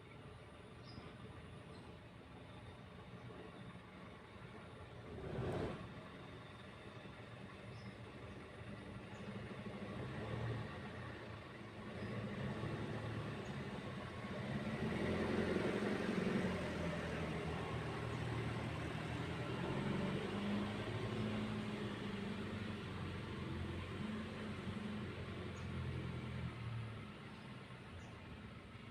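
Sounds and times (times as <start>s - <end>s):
engine humming: 0.0s - 28.9s.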